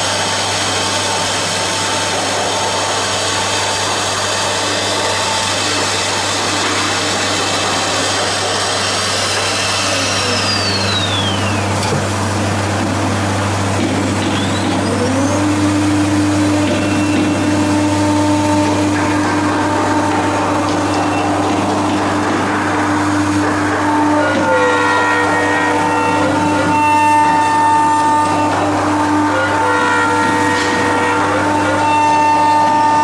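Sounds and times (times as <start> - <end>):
cnc router milling wood: 0.0 - 33.0
dust extractor noise: 0.0 - 33.0
spindle whine: 0.0 - 33.0.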